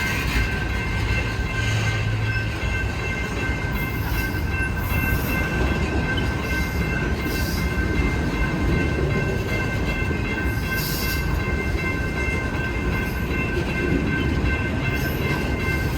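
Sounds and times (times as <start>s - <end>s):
freight train rumbling on rails: 0.0s - 15.9s.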